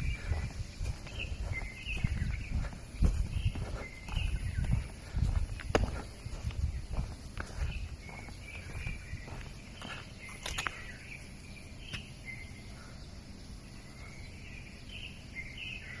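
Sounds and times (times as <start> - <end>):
low outdoor rumble: 0.0 - 15.4
small birds chirping: 0.0 - 16.0.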